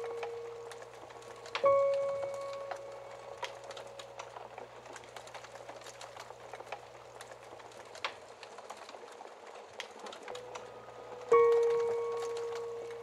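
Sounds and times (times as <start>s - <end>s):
fire popping: 0.0s - 13.0s
wood fire crackling: 0.0s - 13.0s.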